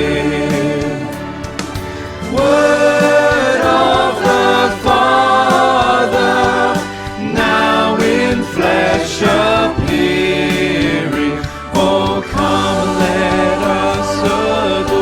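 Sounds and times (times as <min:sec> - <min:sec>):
choir singing a carol: 0:00.0 - 0:15.0.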